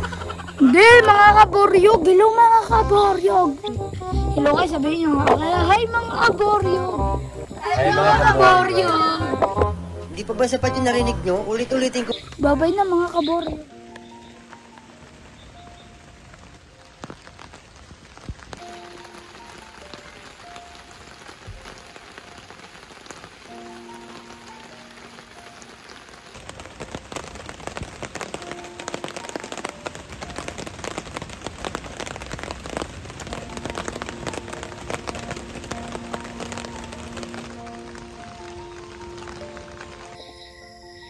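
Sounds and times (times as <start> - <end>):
soft background music: 0.0 - 41.0
steady rain: 0.0 - 41.0.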